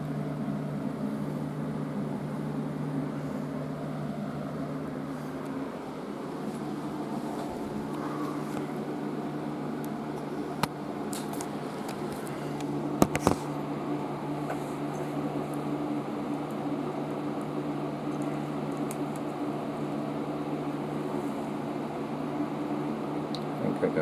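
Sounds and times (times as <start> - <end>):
fan humming: 0.0 - 24.0.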